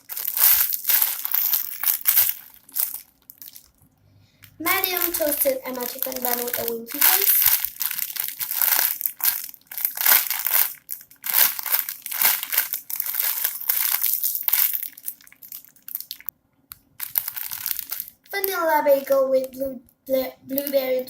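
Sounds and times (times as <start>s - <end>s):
squishy toy crinkling: 0.0s - 3.8s, 4.6s - 16.3s, 17.0s - 19.6s, 20.5s - 21.0s.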